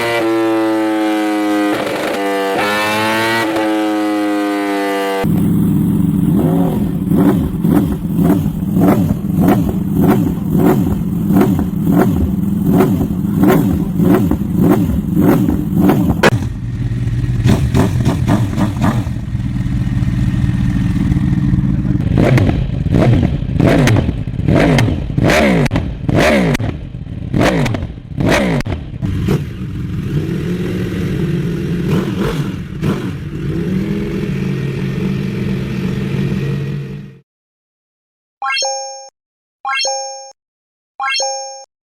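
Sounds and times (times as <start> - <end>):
motorcycle engine revving: 0.0 - 37.2.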